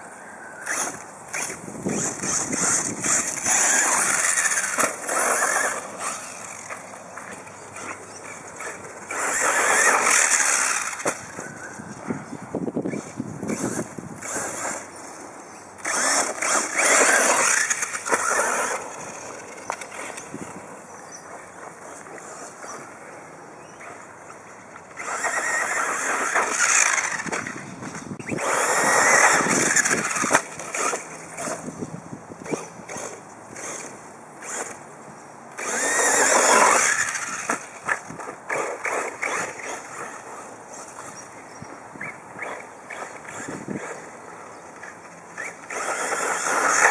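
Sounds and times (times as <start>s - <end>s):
toy car motor whining: 0.6s - 12.1s, 12.8s - 20.6s, 21.5s - 34.8s, 35.5s - 46.9s.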